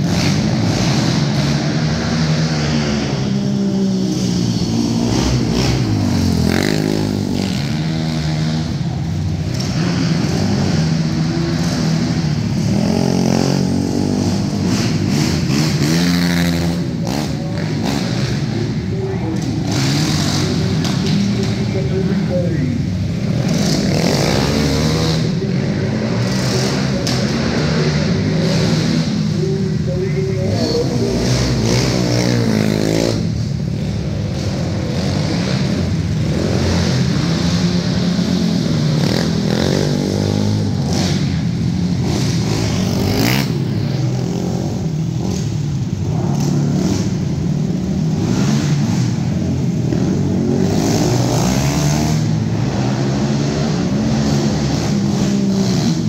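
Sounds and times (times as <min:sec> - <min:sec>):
quad engines revving: 0:00.0 - 0:56.0.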